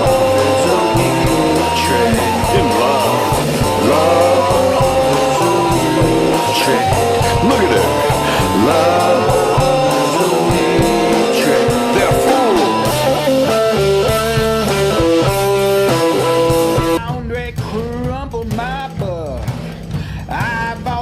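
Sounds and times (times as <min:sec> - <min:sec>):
guitar instrumental music: 0:00.0 - 0:17.0.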